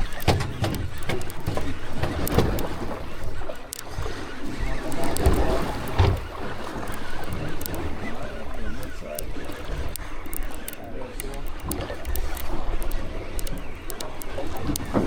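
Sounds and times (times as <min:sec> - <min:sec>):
rumbling wind: 0:00.0 - 0:15.0
water noise: 0:00.0 - 0:15.0.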